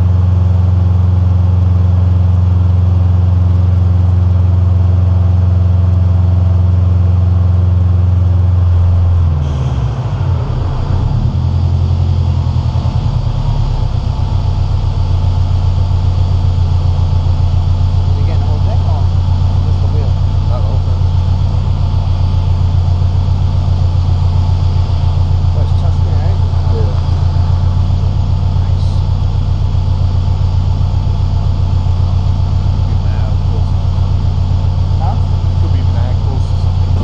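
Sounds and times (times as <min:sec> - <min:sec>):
car engine on dyno rollers: 0:00.0 - 0:37.0.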